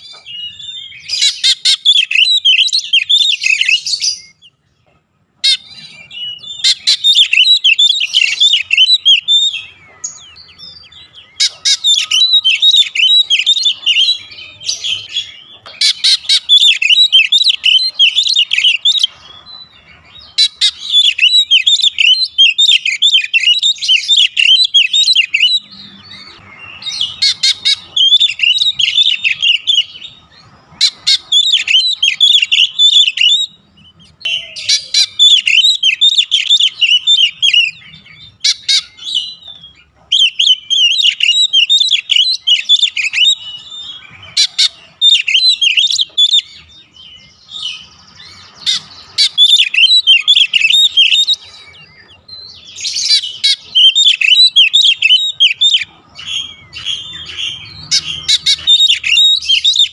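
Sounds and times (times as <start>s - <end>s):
bird singing rapid chirping: 0.0s - 4.7s, 5.4s - 59.9s.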